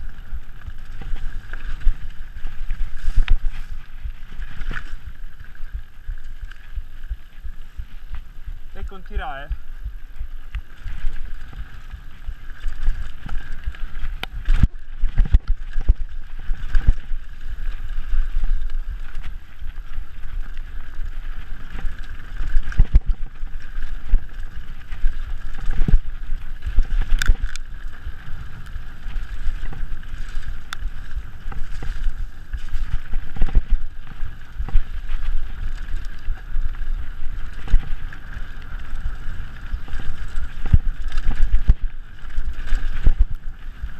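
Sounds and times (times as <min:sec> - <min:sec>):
bike knocking and rattling: 0:00.0 - 0:43.9.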